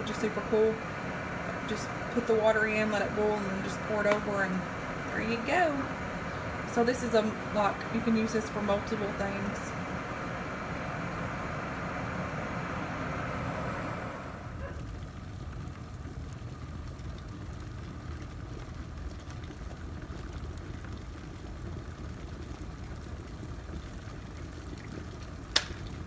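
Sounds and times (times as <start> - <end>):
kettle boiling: 0.0 - 26.0
water settling rumble: 0.0 - 26.0.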